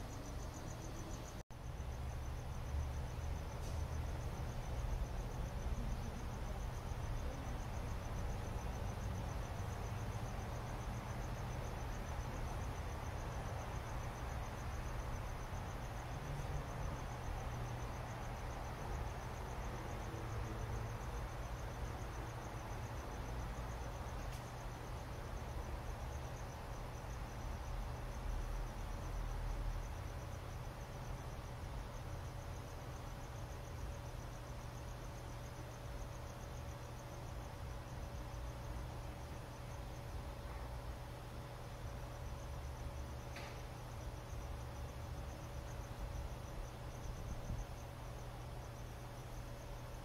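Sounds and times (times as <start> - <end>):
crickets chirping: 0.0 - 50.0.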